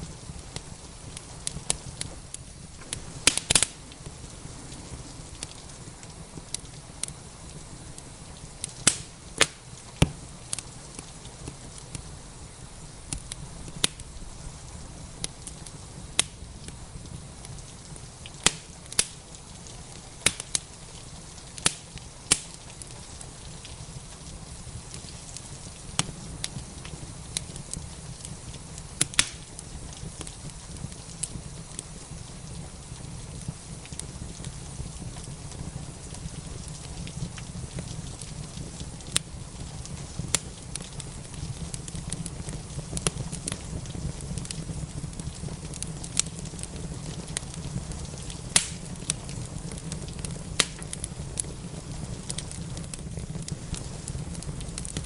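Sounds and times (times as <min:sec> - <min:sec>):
rain hissing: 0:00.0 - 0:55.0
wood fire crackling: 0:00.0 - 0:55.0.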